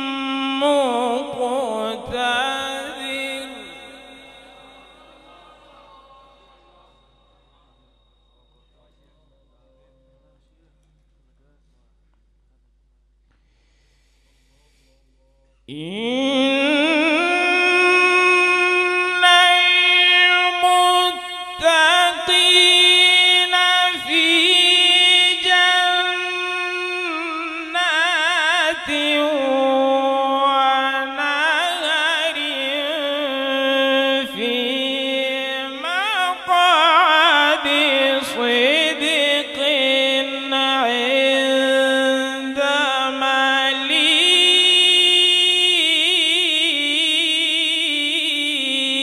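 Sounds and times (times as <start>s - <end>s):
man reciting melodically into a microphone: 0.0s - 7.8s, 14.3s - 49.0s.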